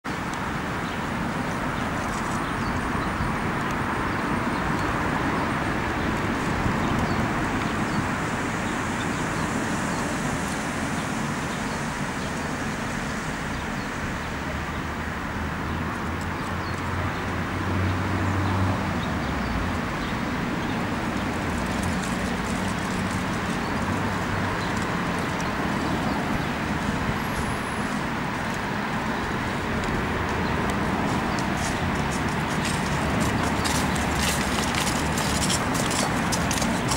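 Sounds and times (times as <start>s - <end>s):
passing road vehicles: 0.0s - 36.9s.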